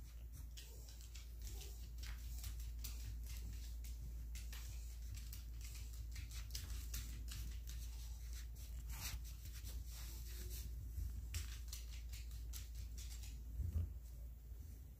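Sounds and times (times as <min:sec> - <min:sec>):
dog claws clicking on hardwood floor: 0:00.0 - 0:13.8.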